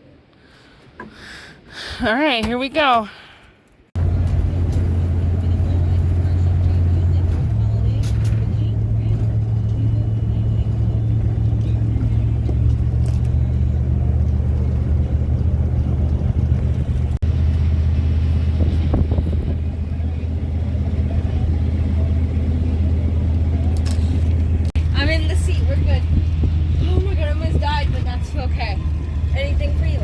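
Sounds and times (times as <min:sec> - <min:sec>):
road noise: 0:00.0 - 0:30.0
vehicle engine drone: 0:04.0 - 0:30.0.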